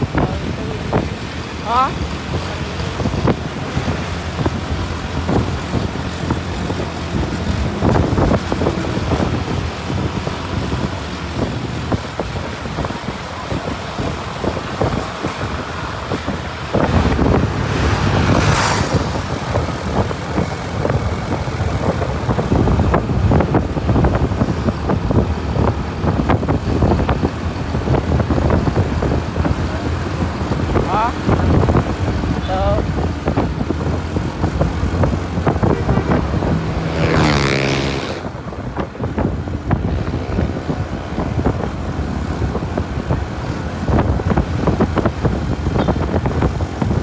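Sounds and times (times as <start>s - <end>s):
vehicle engine and tyre rumble: 0.0s - 47.0s
wind buffeting microphone: 0.0s - 47.0s.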